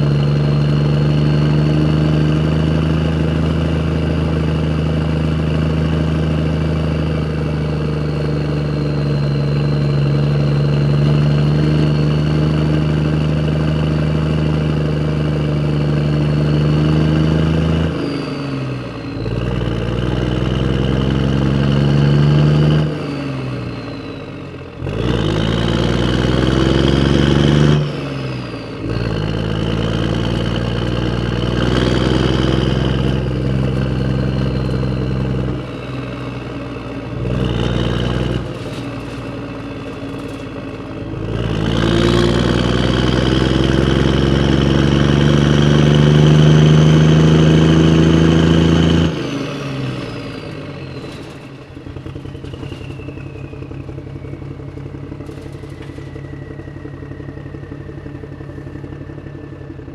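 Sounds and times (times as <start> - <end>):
tractor engine driving: 0.0 - 59.9.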